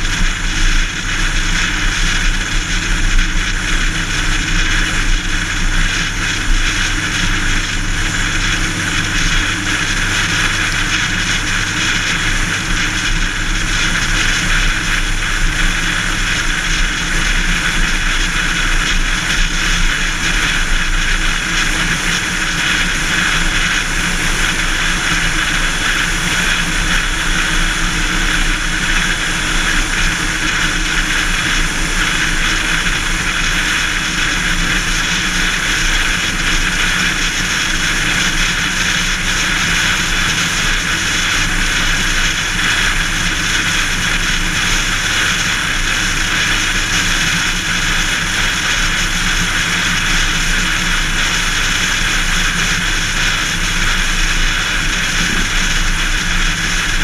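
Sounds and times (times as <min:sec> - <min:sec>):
low engine hum: 0:00.0 - 0:57.0
wind and tyre noise: 0:00.0 - 0:57.0.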